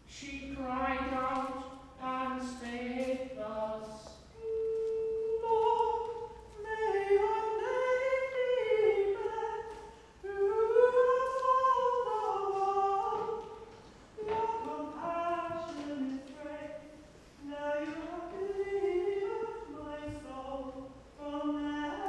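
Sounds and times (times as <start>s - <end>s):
high singing voice: 0.0s - 22.0s.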